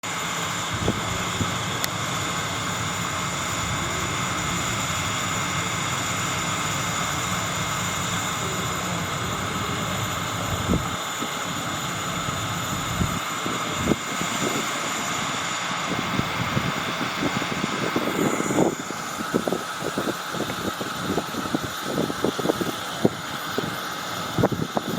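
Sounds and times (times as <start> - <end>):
electric train humming and whining: 0.0 - 24.9.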